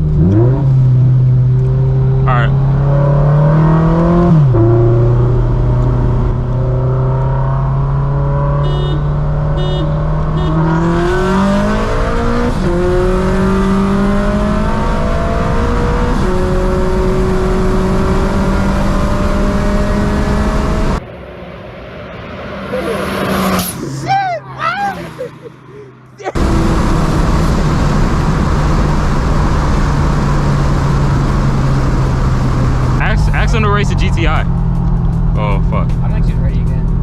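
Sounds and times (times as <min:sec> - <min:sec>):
car engine at full throttle: 0:00.0 - 0:37.0.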